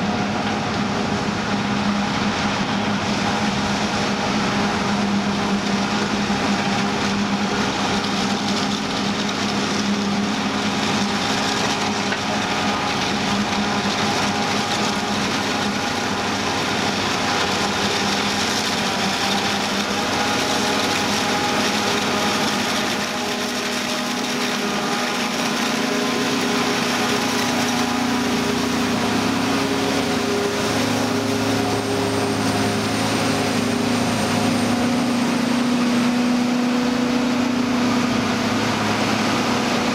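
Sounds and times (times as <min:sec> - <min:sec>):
forage harvester engine drone: 0:00.0 - 0:39.9
tractor engine: 0:00.0 - 0:39.9.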